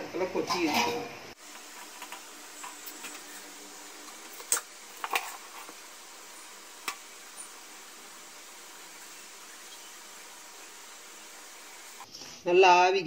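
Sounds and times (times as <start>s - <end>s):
faint hiss: 0.1s - 13.0s.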